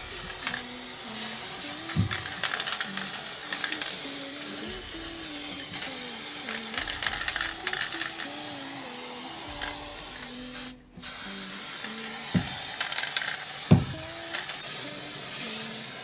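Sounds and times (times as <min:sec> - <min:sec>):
quiet instrumental music: 0:00.0 - 0:16.0
spray can ball rattling: 0:00.0 - 0:16.0
steady hiss: 0:00.0 - 0:16.0.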